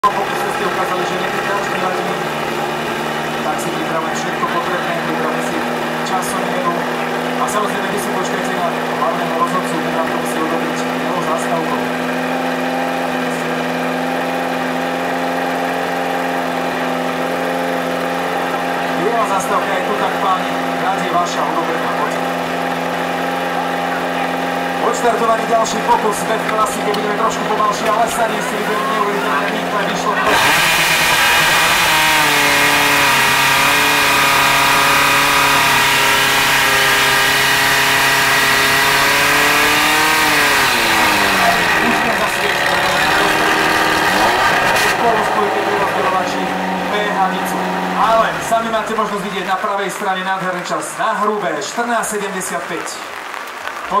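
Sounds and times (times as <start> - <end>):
petrol engine idling: 0.0 - 52.3.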